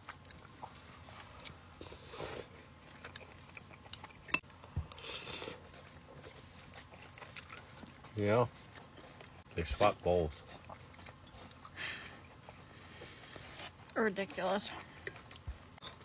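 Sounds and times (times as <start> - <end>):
person chewing and eating: 0.0 - 14.0, 14.6 - 16.0.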